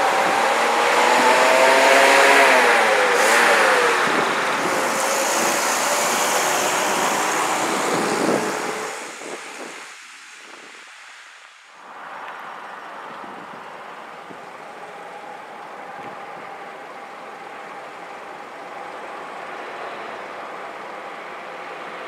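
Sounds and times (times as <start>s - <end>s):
car passing by: 0.0s - 22.0s
road noise: 0.0s - 22.0s.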